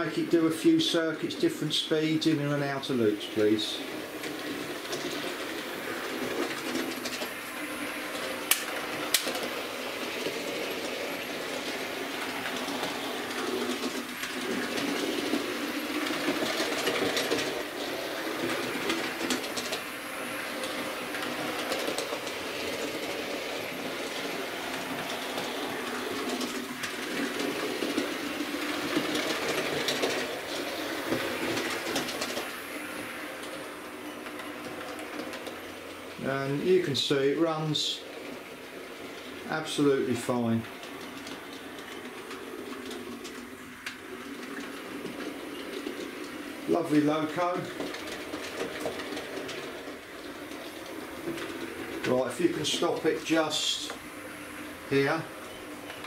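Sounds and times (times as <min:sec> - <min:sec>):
model train motor and wheels: 0:00.0 - 0:56.0.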